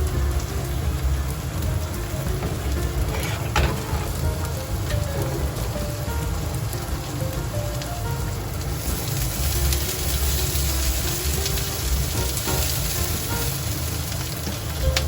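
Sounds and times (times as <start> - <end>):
food sizzling in a frying pan: 0.0 - 15.0
soft background music: 0.0 - 15.0.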